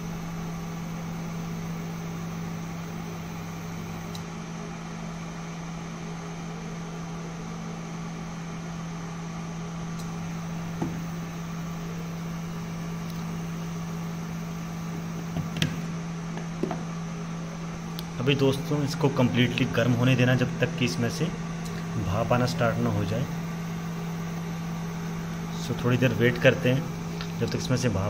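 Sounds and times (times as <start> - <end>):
induction cooktop humming: 0.0 - 28.0.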